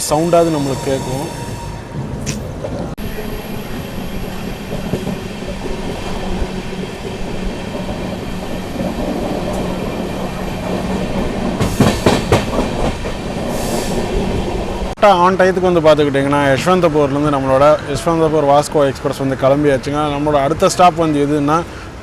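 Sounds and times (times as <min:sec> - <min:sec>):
train wheels rumbling on rails: 0:00.0 - 0:22.0
wheels clacking over rail joints: 0:02.0 - 0:22.0.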